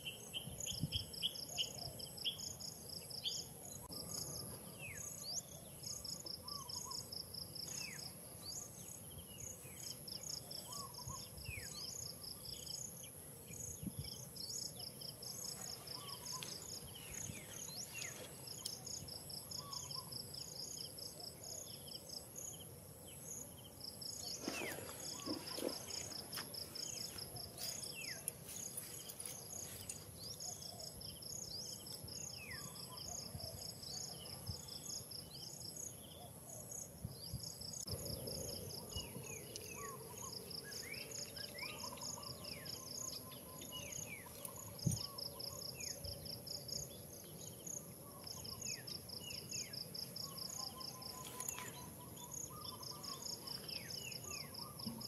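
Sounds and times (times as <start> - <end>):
rapid pulsed insect chirps: 0.0 - 55.0.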